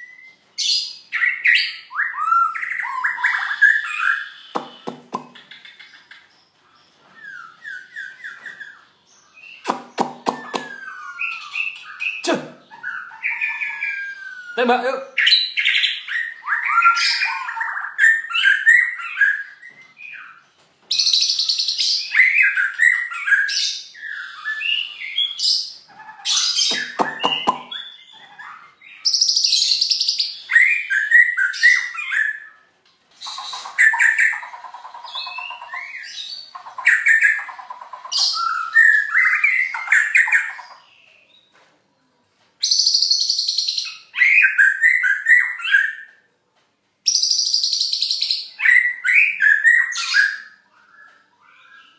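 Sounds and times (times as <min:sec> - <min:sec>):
songbird singing: 0:00.0 - 0:46.3, 0:47.0 - 0:51.9.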